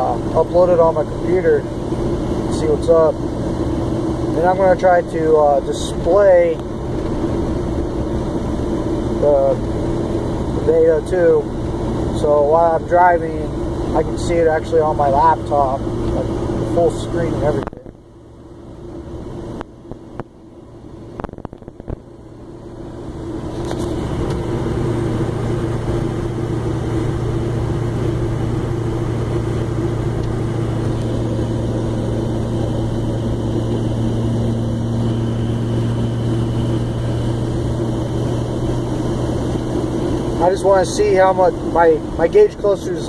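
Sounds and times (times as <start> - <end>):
diesel engine droning in cab: 0.0 - 43.0
road noise: 0.0 - 43.0.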